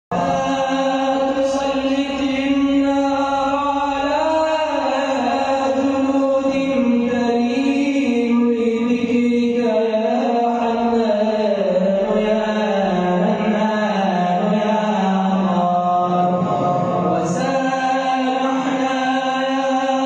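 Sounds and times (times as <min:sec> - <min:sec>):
man chanting religious recitation: 0:00.1 - 0:20.0.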